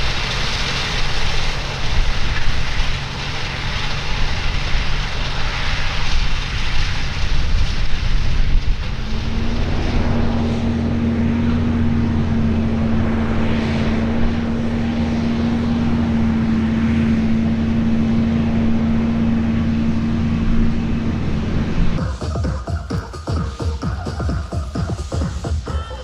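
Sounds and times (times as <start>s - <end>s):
farm machinery engine droning: 0.0s - 26.0s.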